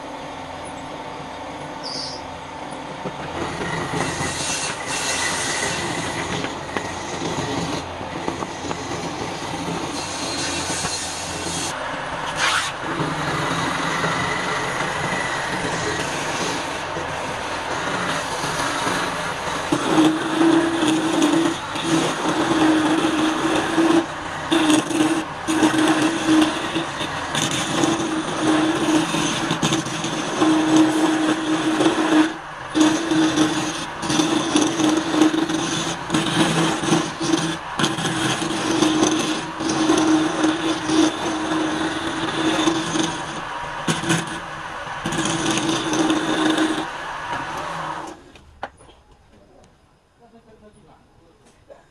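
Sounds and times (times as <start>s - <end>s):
wood lathe humming: 0.0s - 48.3s
turning tool cutting wood: 3.0s - 48.2s.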